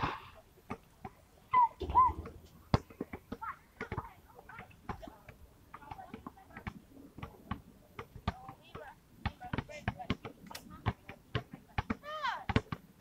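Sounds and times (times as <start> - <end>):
basketball bouncing on asphalt: 1.8 - 13.0.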